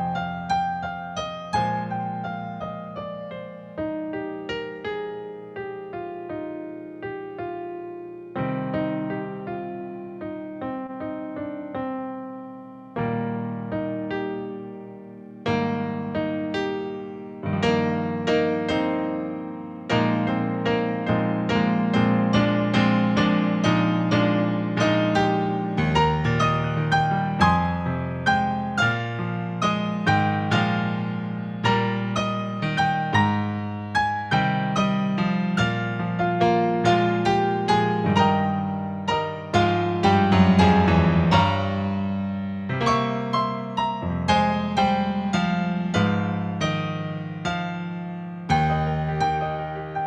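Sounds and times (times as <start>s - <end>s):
solo piano music: 0.0s - 50.0s.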